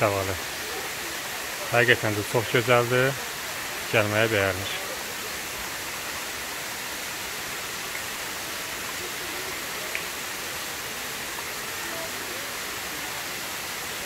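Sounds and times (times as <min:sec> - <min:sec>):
waterfall splashing on rocks: 0:00.0 - 0:14.0.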